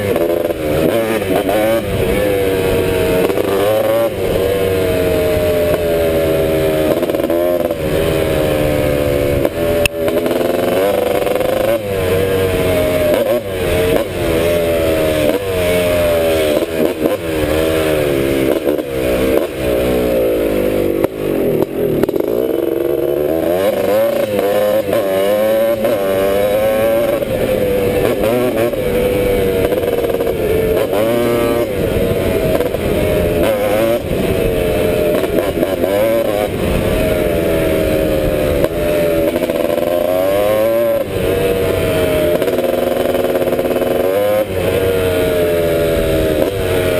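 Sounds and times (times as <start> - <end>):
two-stroke engine revving: 0.0 - 46.9.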